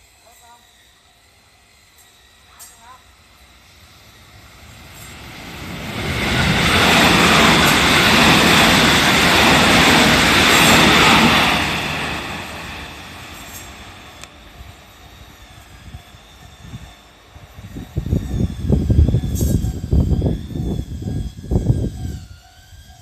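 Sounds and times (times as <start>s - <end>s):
electric train passing at speed: 0.0s - 23.0s.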